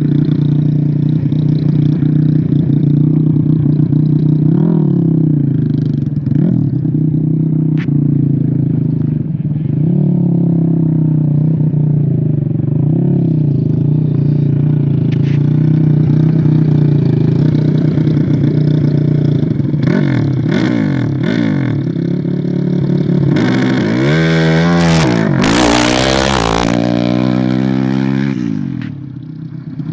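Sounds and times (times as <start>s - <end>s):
atv engine revving: 0.0s - 29.9s.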